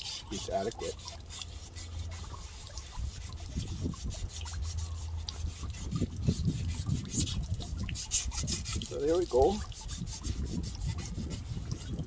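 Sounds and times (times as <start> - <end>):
sandpaper scraping on metal: 0.0 - 12.0.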